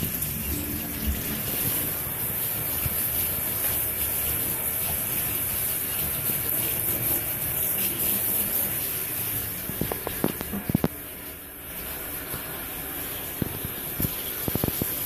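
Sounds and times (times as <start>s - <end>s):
water running into bathtub: 0.0s - 15.0s.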